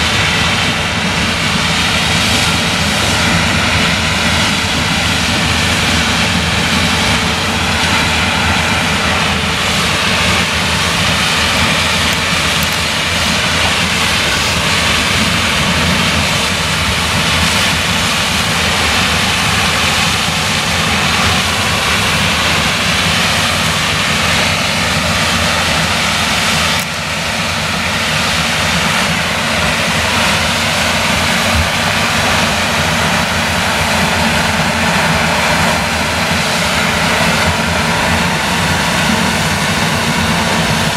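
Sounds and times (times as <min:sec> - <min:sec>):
combine harvester working: 0:00.0 - 0:40.9.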